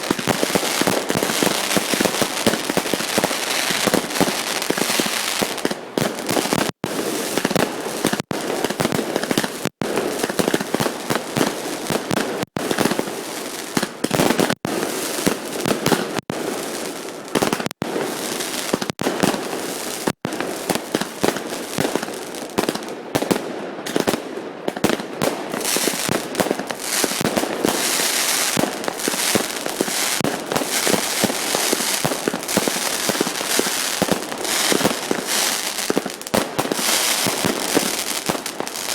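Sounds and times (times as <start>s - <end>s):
fireworks exploding and crackling: 0.0s - 38.9s.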